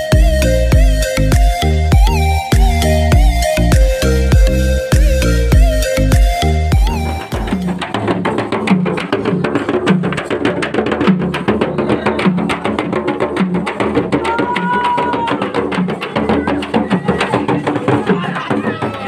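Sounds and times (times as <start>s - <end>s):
deep barrel drum beat: 0.0s - 19.0s
frame drums beaten rapidly: 0.0s - 19.0s.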